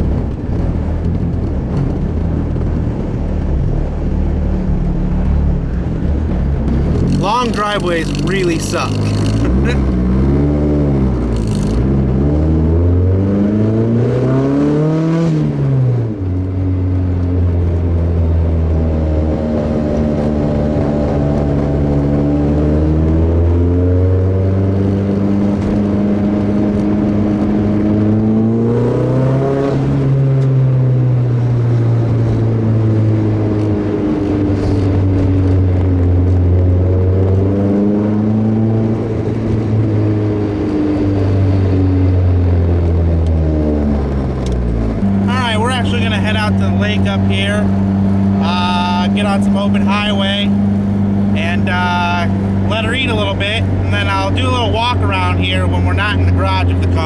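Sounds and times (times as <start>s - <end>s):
car engine accelerating through gears: 0.0s - 49.7s.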